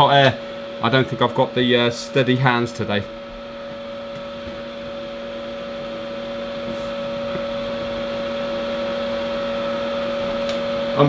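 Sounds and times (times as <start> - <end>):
hot air blower whirring: 0.0 - 11.0.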